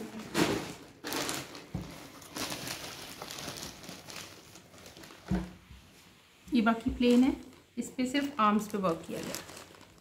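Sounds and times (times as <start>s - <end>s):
plastic garment bag crinkling: 0.0s - 5.6s, 6.5s - 10.0s.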